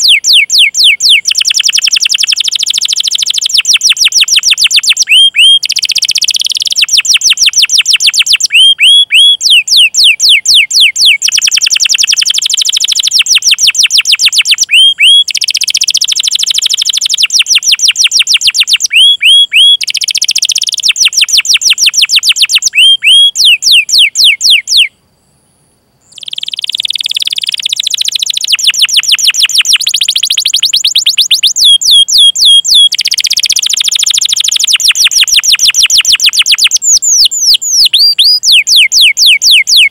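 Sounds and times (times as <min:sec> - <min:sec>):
canary singing trills: 0:00.0 - 0:25.0, 0:26.0 - 0:39.9.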